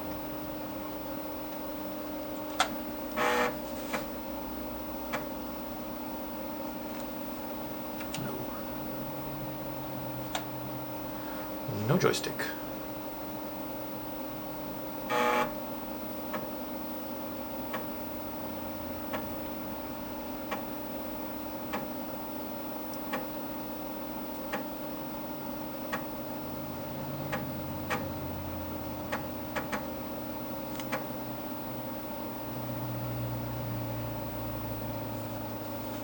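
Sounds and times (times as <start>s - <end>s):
computer humming: 0.0s - 16.4s, 17.2s - 36.0s.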